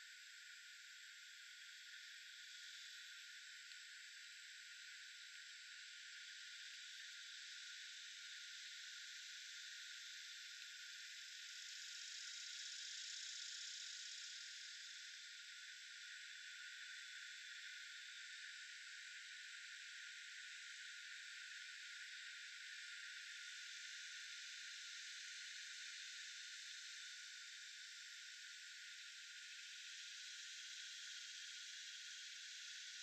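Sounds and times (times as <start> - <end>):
faint high-pitched hiss: 0.0 - 33.0.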